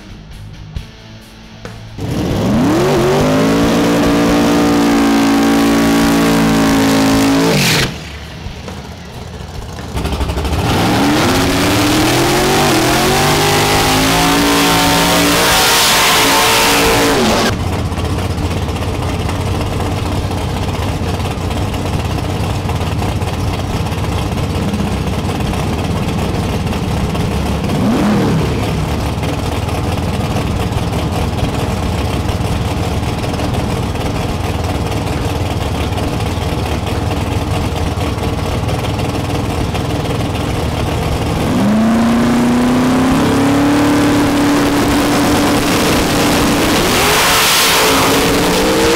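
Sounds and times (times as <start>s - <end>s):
drag car engines idling: 0.0s - 48.9s
drag car engine revving: 1.9s - 48.9s.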